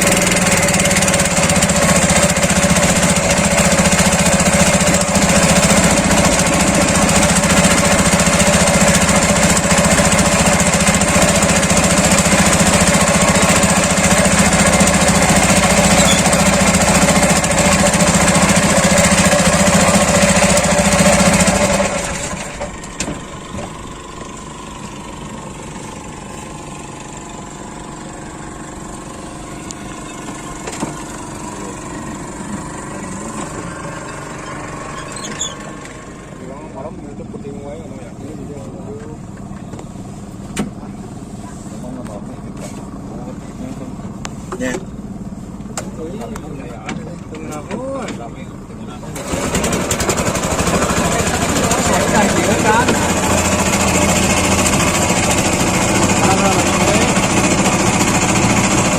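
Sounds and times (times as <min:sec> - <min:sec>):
engine running with pulsing beat: 0:00.0 - 0:58.9.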